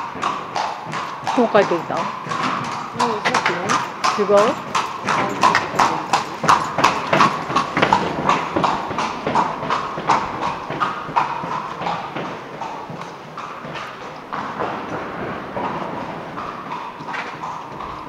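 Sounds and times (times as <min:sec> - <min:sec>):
hooves clip-clopping on stone: 0:00.0 - 0:18.0.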